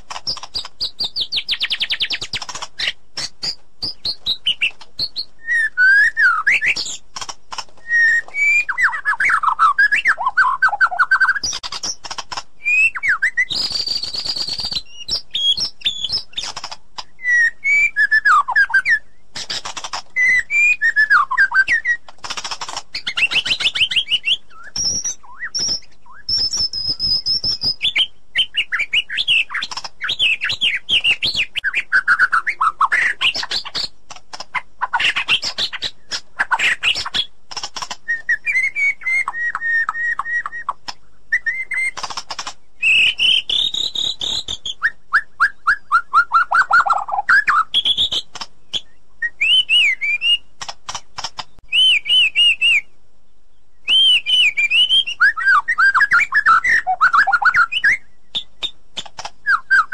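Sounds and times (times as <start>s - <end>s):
bird singing: 0.0s - 59.9s.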